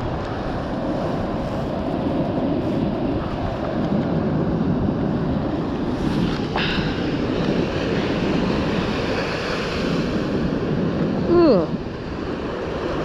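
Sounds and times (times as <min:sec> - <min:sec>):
ocean surf on beach: 0:00.0 - 0:13.0
wind buffeting microphone: 0:00.0 - 0:13.0.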